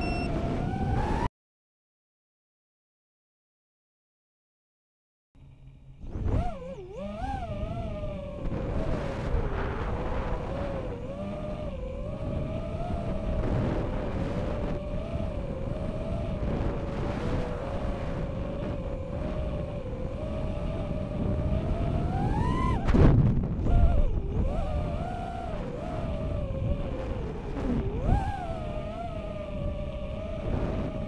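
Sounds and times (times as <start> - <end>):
drone motors whining: 0.0 - 1.3, 5.4 - 31.0.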